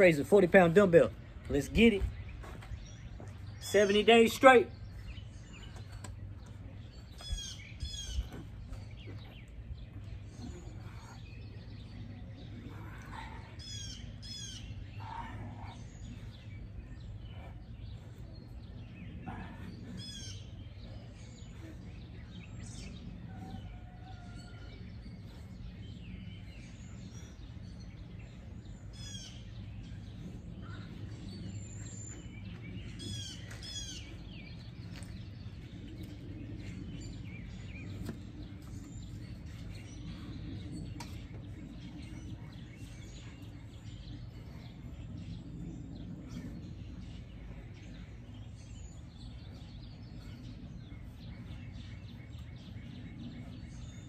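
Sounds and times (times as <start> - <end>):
birds chirping: 0.0 - 54.0
low background hum: 0.0 - 54.0.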